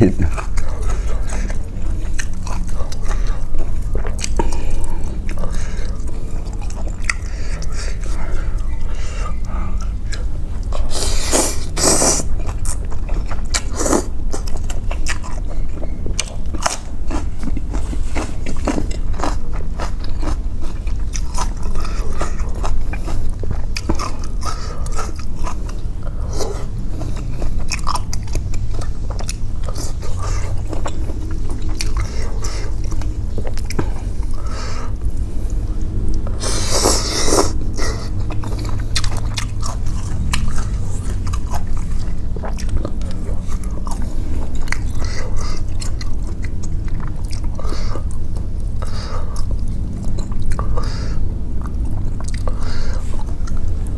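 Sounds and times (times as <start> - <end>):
wet chewing and biting: 0.1 - 53.9.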